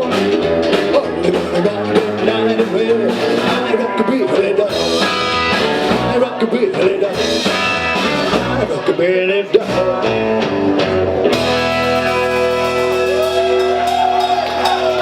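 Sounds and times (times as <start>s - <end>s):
rockabilly band playing live: 0.0s - 15.0s
sliding guitar line: 0.0s - 15.0s.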